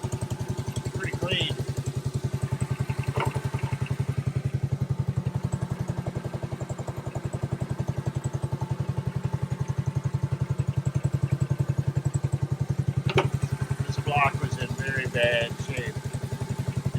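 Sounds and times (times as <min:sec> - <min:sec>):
motor running with even pulse: 0:00.0 - 0:16.9.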